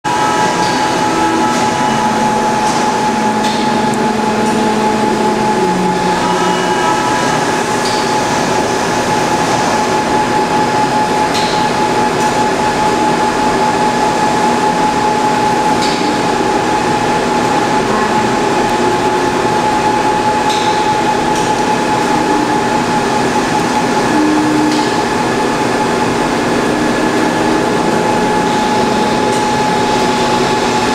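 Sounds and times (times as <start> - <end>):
machine whine: 0.1 - 30.9.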